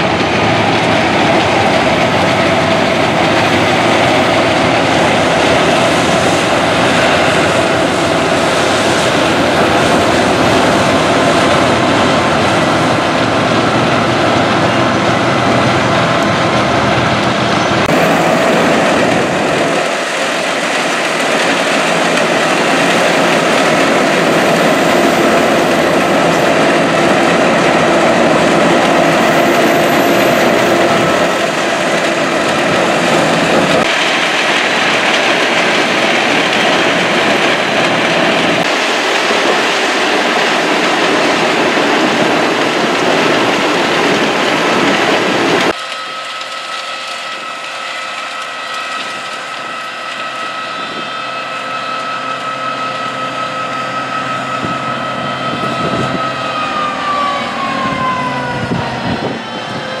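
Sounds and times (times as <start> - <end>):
wood chipper running: 0.0 - 57.3.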